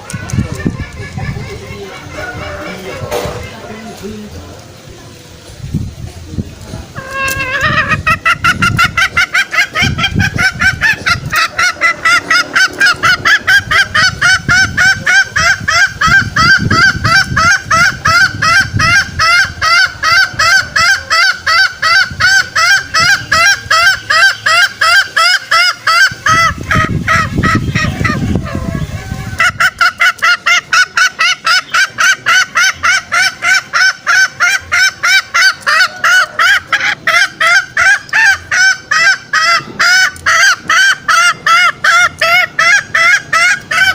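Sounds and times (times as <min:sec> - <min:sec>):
junglefowl calls: 0:00.0 - 0:04.4, 0:06.9 - 0:43.9.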